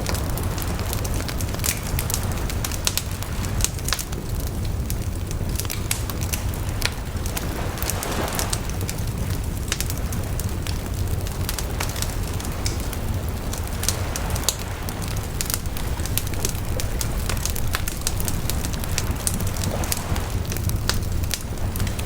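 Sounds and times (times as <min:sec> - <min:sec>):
campfire crackling: 0:00.0 - 0:22.0
waves on the shore: 0:00.0 - 0:22.0.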